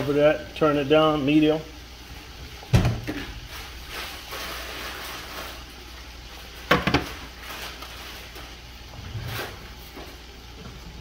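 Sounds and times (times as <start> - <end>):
butter and vegetables sizzling: 0.0 - 11.0.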